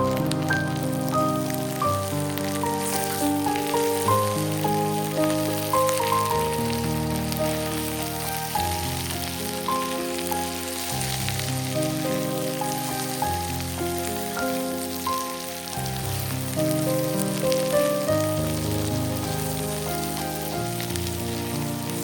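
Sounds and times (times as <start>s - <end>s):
food sizzling in frying pan: 0.0s - 22.0s
instrumental background music: 0.0s - 22.0s.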